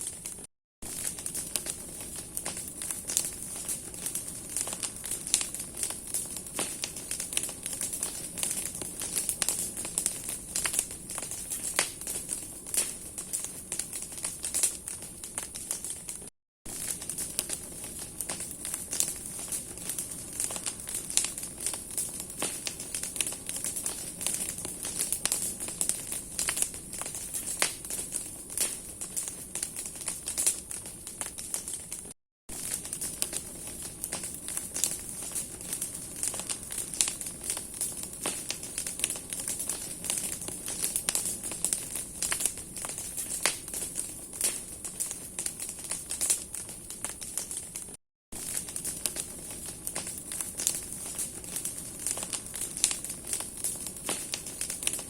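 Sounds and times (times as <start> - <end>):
bonfire crackling and popping: 0.0 - 55.0
fire hissing: 0.0 - 55.0.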